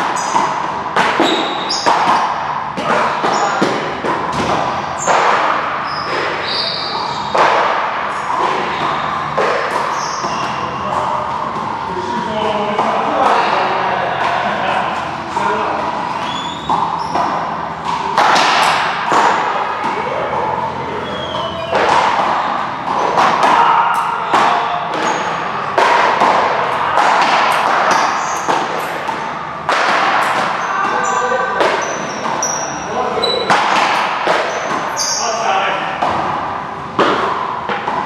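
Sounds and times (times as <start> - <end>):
ball struck and bouncing: 0.0 - 6.5, 7.2 - 11.7, 15.8 - 20.0, 21.6 - 35.1, 35.9 - 38.0
players' voices: 0.0 - 38.0.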